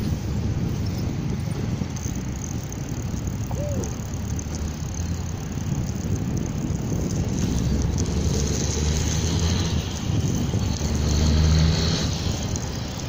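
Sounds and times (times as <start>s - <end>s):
motor engine humming: 0.0s - 13.0s.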